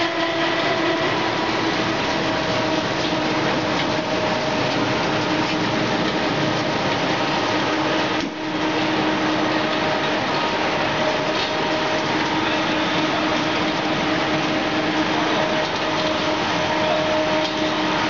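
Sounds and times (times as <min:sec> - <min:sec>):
machinery whirring and humming: 0:00.0 - 0:18.0.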